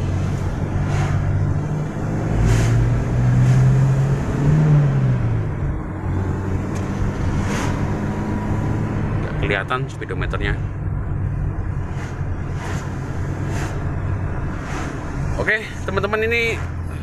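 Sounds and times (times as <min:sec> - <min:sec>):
car engine accelerating: 0:00.0 - 0:17.0
road noise: 0:00.0 - 0:17.0.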